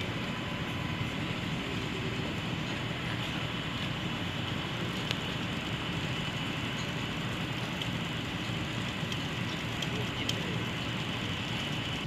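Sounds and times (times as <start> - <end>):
outdoor low rumble and hiss: 0.0 - 12.0.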